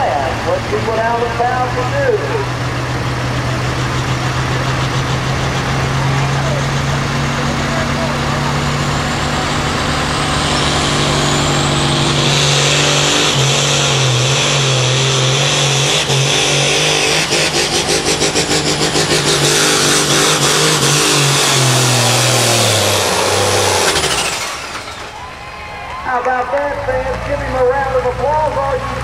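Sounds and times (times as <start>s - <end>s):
pulling tractor engine at full power: 0.0s - 29.0s.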